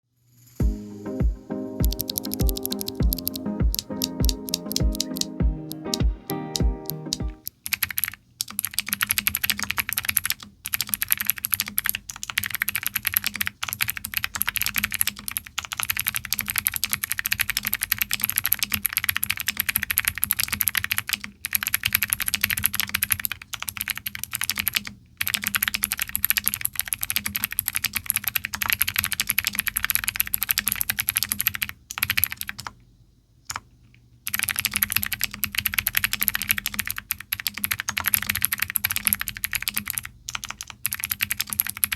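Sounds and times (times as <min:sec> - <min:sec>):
fast typing on clicky keyboard: 0:01.8 - 0:05.3, 0:06.6 - 0:32.8, 0:34.3 - 0:41.9.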